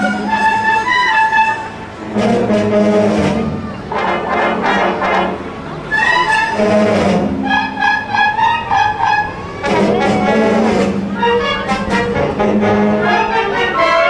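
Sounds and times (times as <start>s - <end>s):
brass chords: 0.0s - 14.0s
concert band playing: 0.0s - 14.0s.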